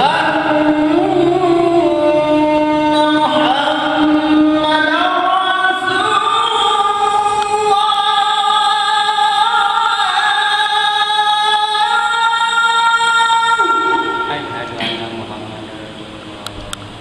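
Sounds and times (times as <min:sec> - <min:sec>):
man singing call to prayer: 0:00.0 - 0:16.2.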